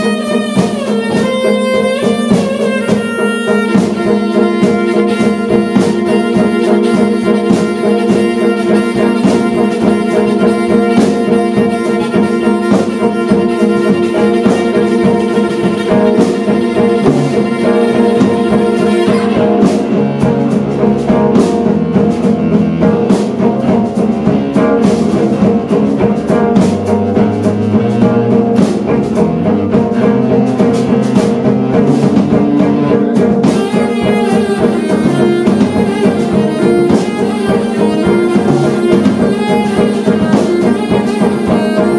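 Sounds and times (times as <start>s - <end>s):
bowed cello: 0.0s - 41.9s
drum kit: 0.0s - 41.9s
electric guitar: 0.0s - 41.9s
low bass notes: 0.0s - 41.9s
tenor saxophone: 0.0s - 41.9s.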